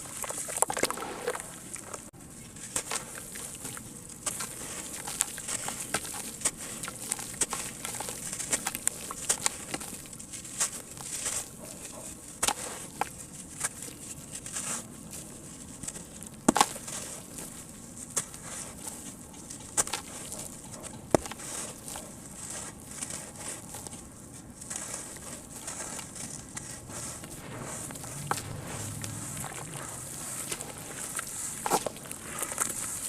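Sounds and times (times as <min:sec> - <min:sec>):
cement lumps crackling in water: 0:00.0 - 0:33.0.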